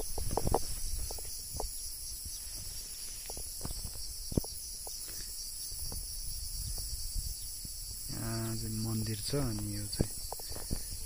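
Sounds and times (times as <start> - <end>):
insect chorus chirring: 0.0 - 11.0.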